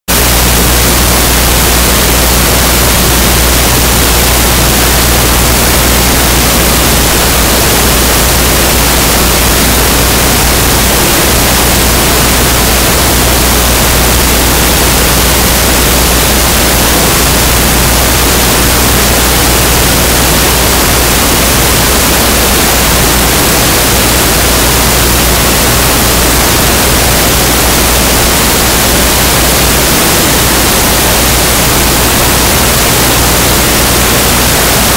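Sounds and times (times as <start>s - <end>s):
static hiss: 0.1s - 34.9s
low electrical hum: 0.2s - 34.9s.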